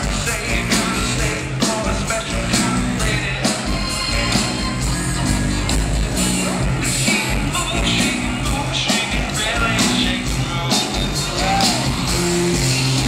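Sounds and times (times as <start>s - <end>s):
person singing: 0.0s - 5.0s, 6.2s - 12.6s
bass guitar: 0.0s - 13.0s
live band playing amplified music: 0.0s - 13.0s
steady drum beat: 0.0s - 13.0s.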